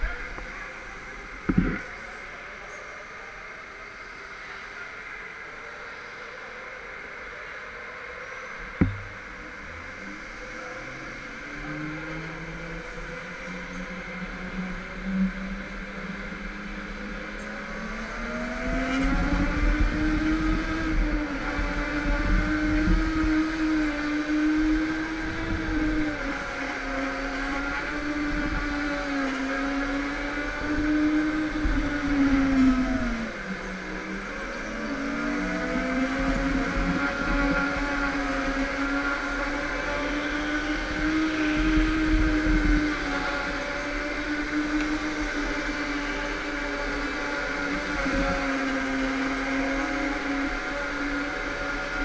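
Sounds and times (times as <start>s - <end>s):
go-kart motor running: 0.0s - 4.2s, 8.6s - 52.0s.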